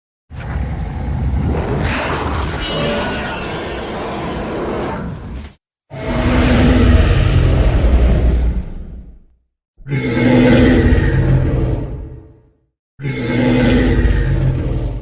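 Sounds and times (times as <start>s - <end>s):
monster roar with growl: 0.3s - 12.4s, 13.0s - 15.0s.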